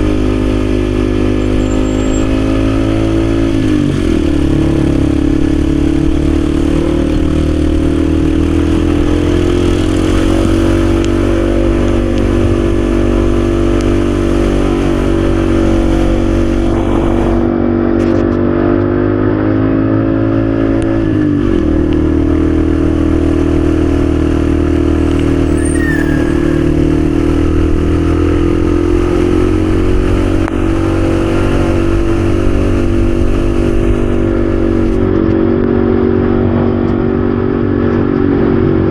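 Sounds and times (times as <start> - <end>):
wind rush on microphone: 0.0 - 18.2, 20.0 - 38.9
motorcycle engine cruising: 0.0 - 38.9.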